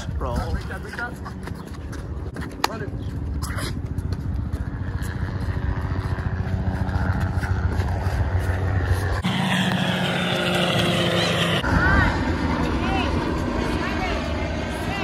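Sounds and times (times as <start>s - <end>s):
low engine drone: 1.1s - 15.0s.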